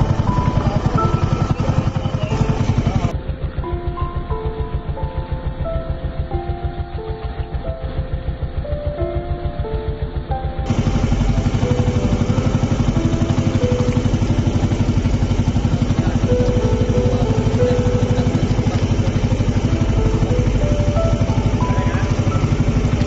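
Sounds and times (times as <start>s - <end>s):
small boat engine chugging: 0.0s - 23.0s.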